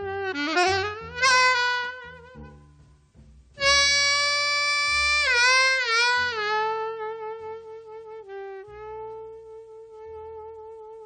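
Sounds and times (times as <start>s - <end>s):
alto saxophone: 0.0s - 11.0s
double bass notes: 0.0s - 11.0s.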